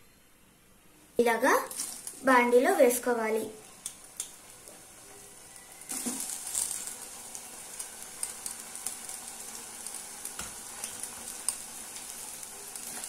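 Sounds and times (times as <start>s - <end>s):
deep-frying sizzle with pops: 1.2s - 13.0s.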